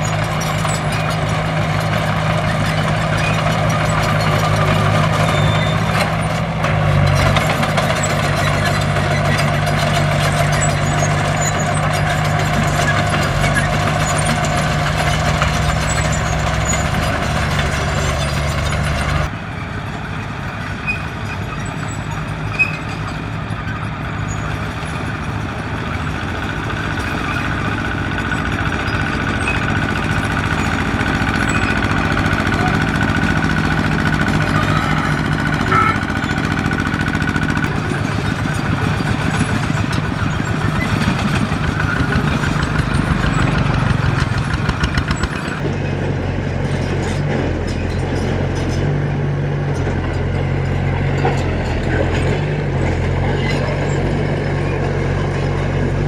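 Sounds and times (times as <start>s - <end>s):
heavy machine diesel engines: 0.0s - 56.0s.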